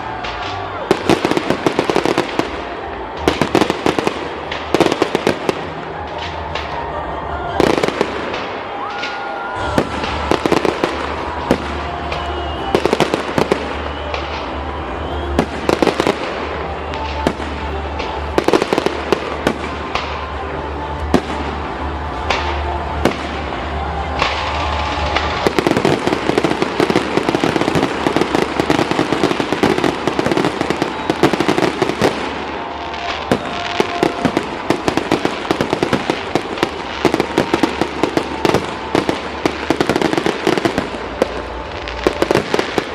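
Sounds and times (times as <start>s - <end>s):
firework crackle: 0.0s - 42.9s.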